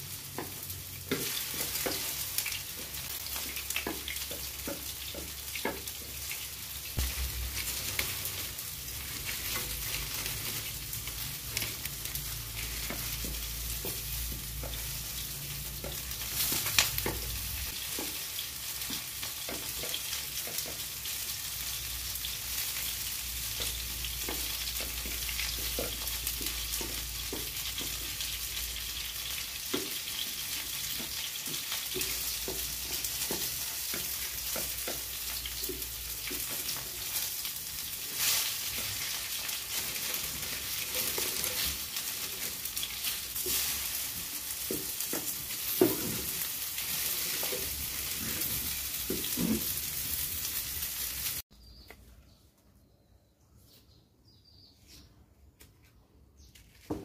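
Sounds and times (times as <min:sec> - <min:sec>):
food sizzling in hot oil: 0:00.0 - 0:51.5.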